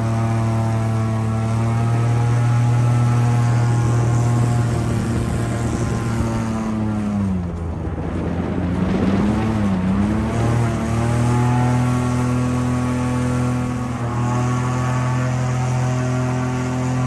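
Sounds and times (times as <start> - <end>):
airboat engine and propeller drone: 0.0 - 17.0.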